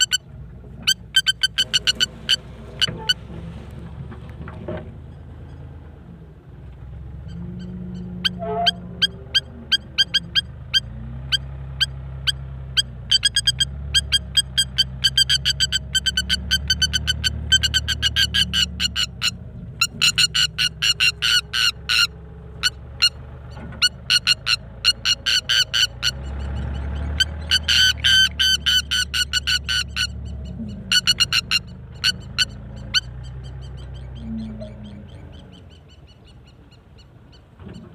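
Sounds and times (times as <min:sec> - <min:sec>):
bird peeping: 0:00.0 - 0:03.2, 0:07.2 - 0:37.9.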